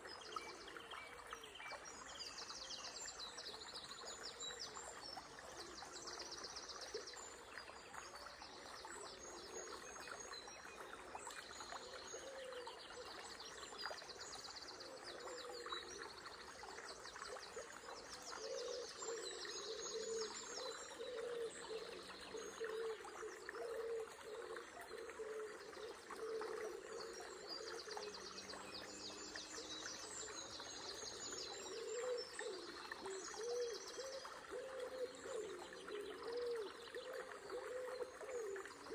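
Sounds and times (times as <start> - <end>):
river trickling: 0.0 - 38.9
songbirds trilling and chirping: 0.0 - 38.9.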